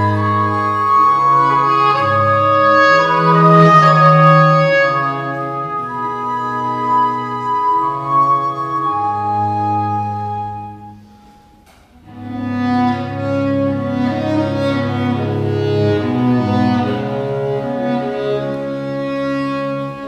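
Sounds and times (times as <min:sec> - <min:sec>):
chamber music: 0:00.0 - 0:20.0.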